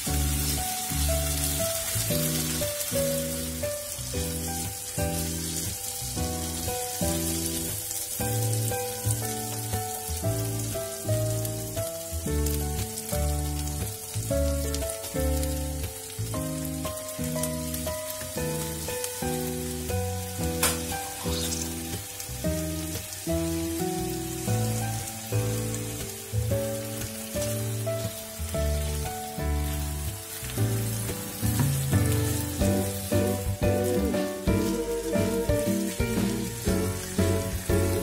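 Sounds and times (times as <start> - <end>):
background music with bass line: 0.0 - 38.0
food sizzling in hot oil: 0.0 - 38.0.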